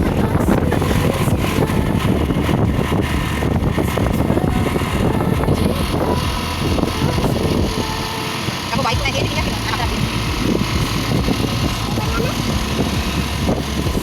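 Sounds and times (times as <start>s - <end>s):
vehicle running: 0.0s - 14.0s
wind buffeting microphone: 0.0s - 14.0s.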